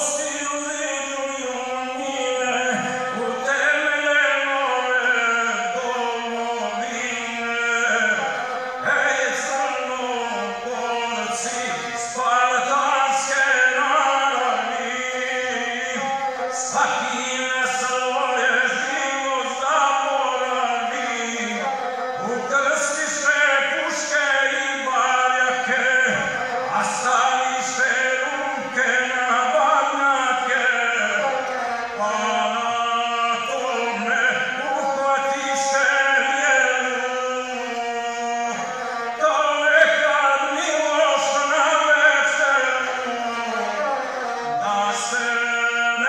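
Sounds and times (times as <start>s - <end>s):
bowed single-string fiddle: 0.0s - 46.0s
man chanting epic poem: 0.0s - 46.0s.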